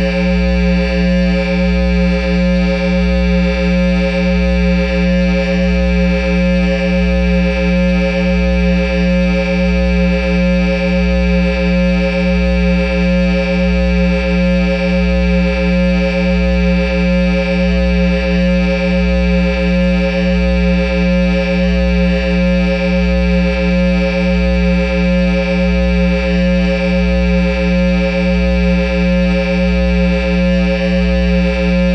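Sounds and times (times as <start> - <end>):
pulsing bass amplifier drone: 0.0 - 31.9.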